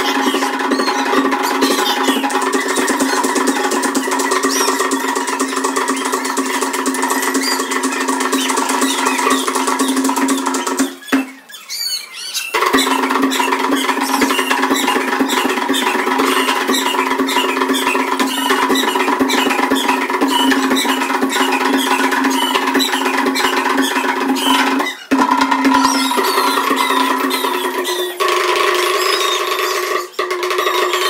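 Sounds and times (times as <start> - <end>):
dense rhythmic clicks: 0.0 - 11.4, 12.5 - 29.3
drumming: 0.0 - 11.4, 12.5 - 31.0
high squealing calls: 0.0 - 31.0.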